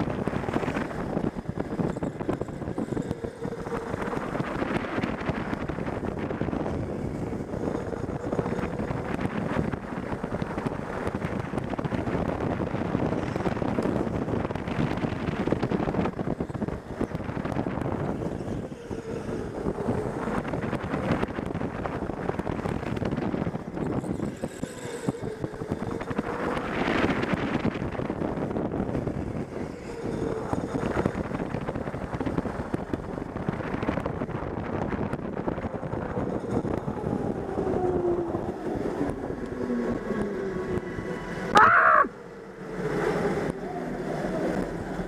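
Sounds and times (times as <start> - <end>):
wind on microphone: 0.0 - 42.1
go-kart tyres and chassis rumble: 0.0 - 45.0.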